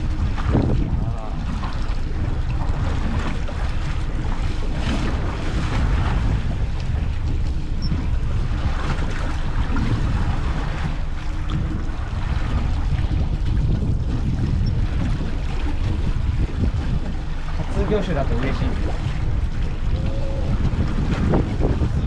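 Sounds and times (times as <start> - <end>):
sea washing: 0.0 - 22.0
wind rumbling on microphone: 0.0 - 22.0.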